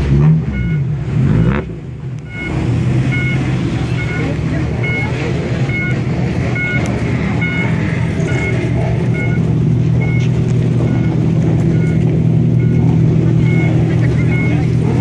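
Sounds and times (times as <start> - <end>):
car exhaust rumble: 0.0 - 15.0
short electronic beeps: 0.5 - 1.6, 2.2 - 14.9.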